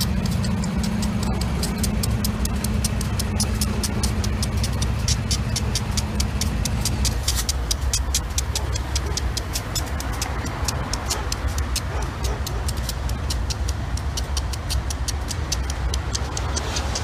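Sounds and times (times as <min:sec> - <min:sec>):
diesel locomotives rumbling: 0:00.0 - 0:17.0
rapid clicking: 0:00.0 - 0:17.0.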